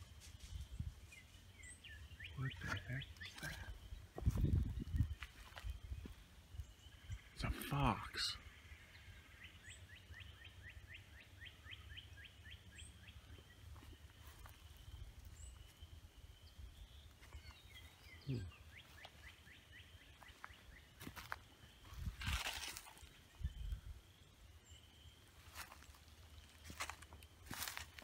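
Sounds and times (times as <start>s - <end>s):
faint bird calls: 1.6s - 15.8s, 16.4s - 28.0s.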